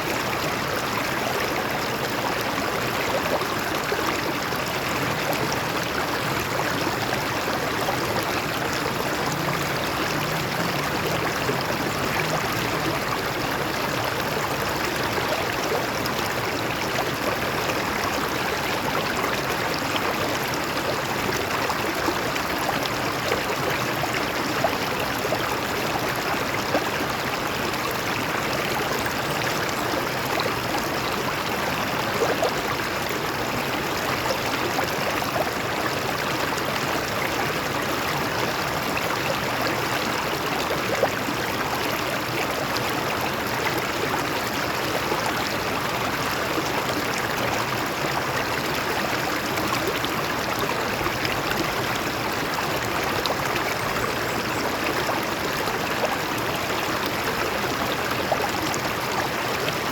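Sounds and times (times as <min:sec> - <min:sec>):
stream water over rocks: 0:00.0 - 0:59.9.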